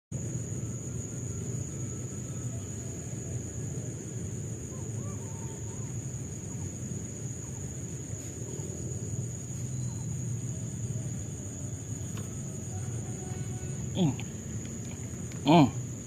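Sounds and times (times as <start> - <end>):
insects trilling: 0.1 - 16.0.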